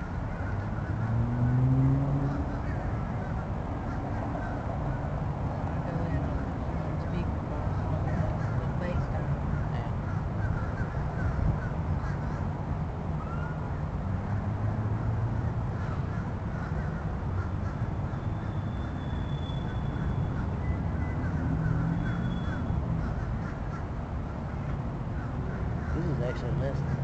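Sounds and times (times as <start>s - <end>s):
birds calling: 0.0s - 12.6s, 15.7s - 27.0s.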